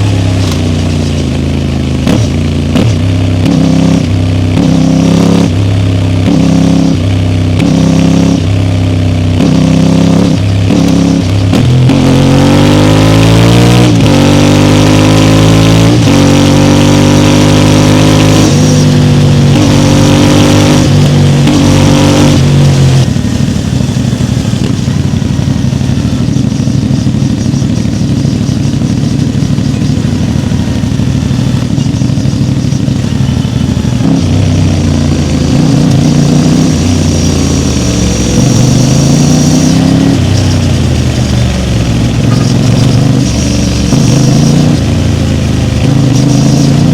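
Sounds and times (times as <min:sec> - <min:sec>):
motorcycle engine revving through gears: 0:00.0 - 0:46.9.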